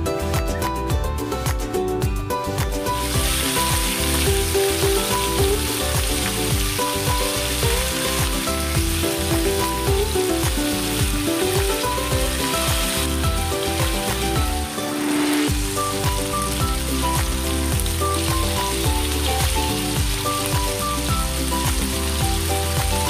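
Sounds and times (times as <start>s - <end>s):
background music with a beat: 0.0s - 23.0s
chicken sizzling in hot oil: 2.9s - 23.0s.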